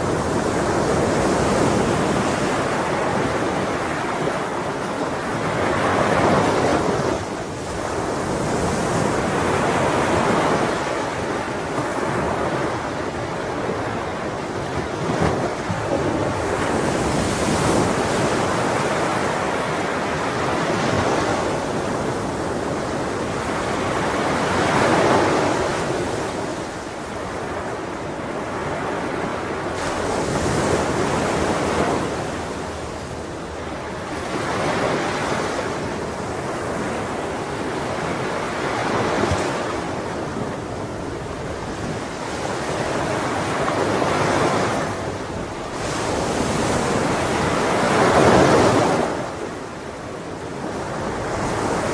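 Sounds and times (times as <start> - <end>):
ocean waves breaking on shore: 0.0 - 51.9
wind: 0.0 - 51.9.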